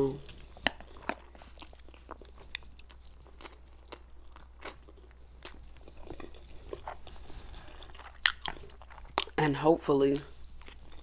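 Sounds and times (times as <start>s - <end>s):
person chewing noodles: 0.0s - 9.4s, 10.2s - 11.0s.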